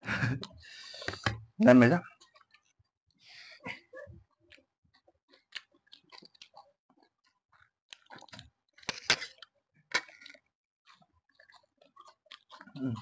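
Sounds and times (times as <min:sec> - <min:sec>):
person chewing and crunching food: 0:00.1 - 0:13.0.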